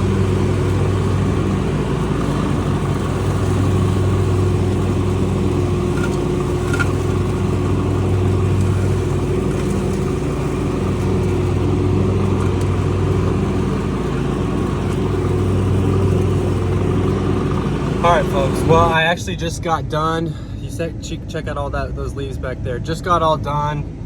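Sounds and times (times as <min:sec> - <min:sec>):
vehicle engine running steadily: 0:00.0 - 0:24.0.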